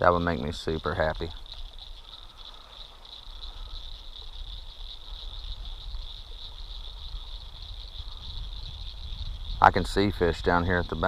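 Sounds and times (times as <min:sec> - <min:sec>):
frogs chorus calling: 0:00.0 - 0:11.0.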